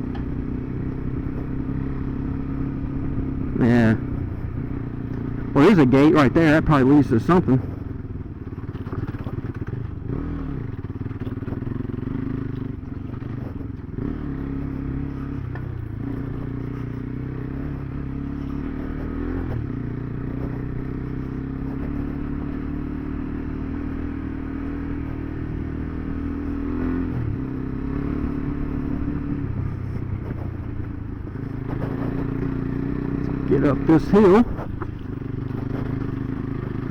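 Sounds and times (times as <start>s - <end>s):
single-cylinder engine running: 0.0s - 36.9s.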